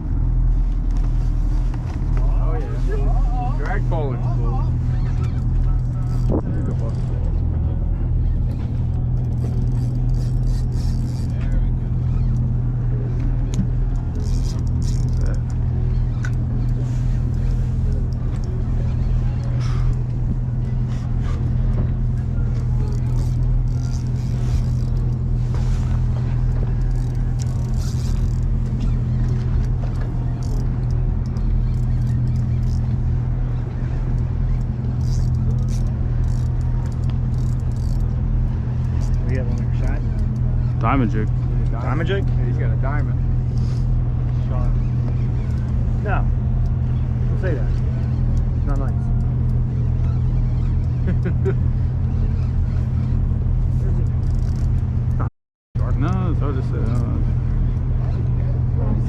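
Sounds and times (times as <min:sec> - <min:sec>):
boat engine droning: 0:00.0 - 0:59.0
voices: 0:02.1 - 0:09.1, 0:11.1 - 0:54.3, 0:55.8 - 0:59.0.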